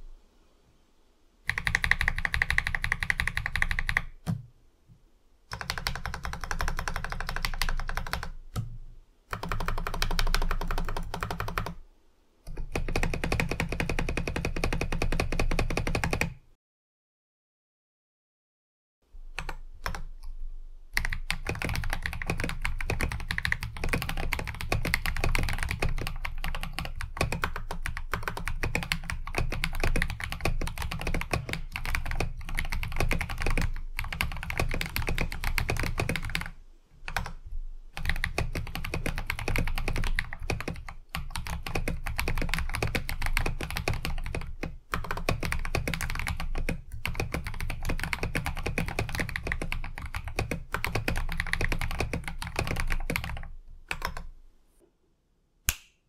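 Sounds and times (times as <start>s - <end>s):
mechanical keyboard typing: 1.5s - 4.4s, 5.5s - 8.6s, 9.3s - 11.8s, 12.5s - 16.4s, 19.4s - 20.1s, 21.0s - 36.5s, 37.1s - 37.4s, 38.0s - 54.3s.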